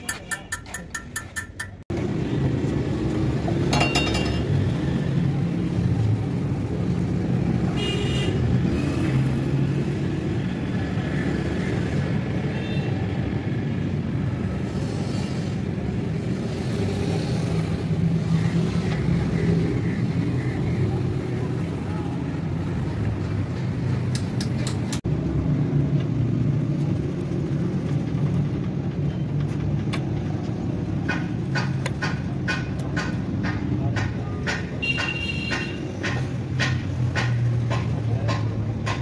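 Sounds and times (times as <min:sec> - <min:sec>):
vehicle engines rumbling: 0:00.0 - 0:39.0.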